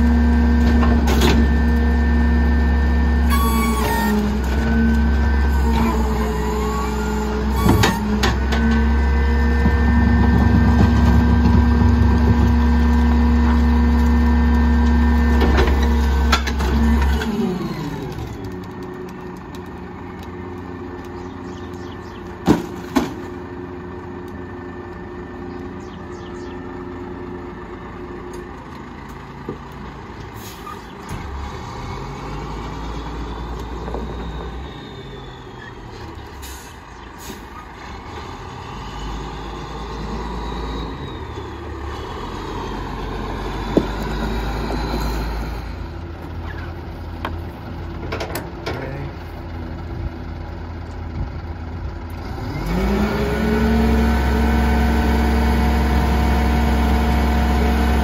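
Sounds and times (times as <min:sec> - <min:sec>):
garbage truck engine: 0:00.0 - 0:58.0.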